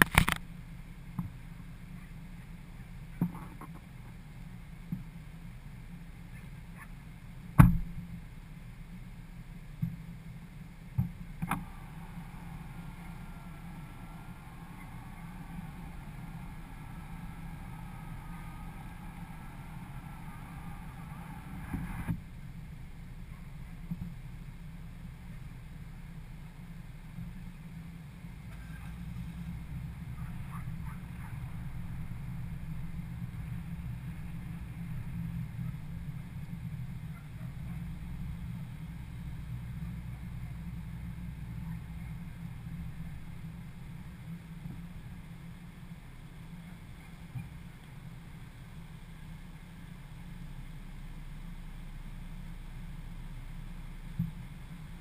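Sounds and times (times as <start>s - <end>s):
muffled car engine rumble: 0.0s - 55.0s.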